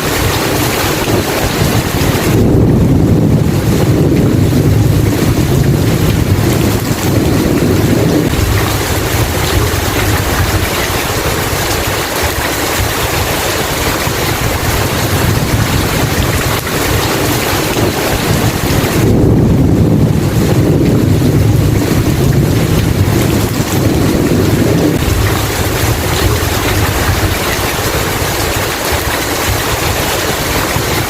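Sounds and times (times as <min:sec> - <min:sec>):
rain hiss: 0:00.0 - 0:31.0
thunder rumbling: 0:00.0 - 0:31.0.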